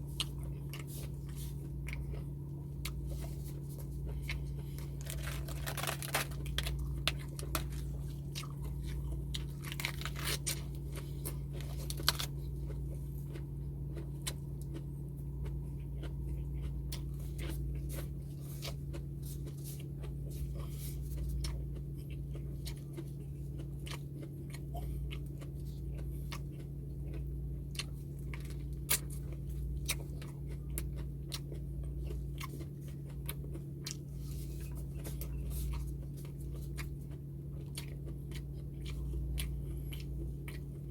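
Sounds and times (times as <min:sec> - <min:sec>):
chewing and crunching food: 0:00.0 - 0:40.9
steady low hum: 0:00.0 - 0:40.9.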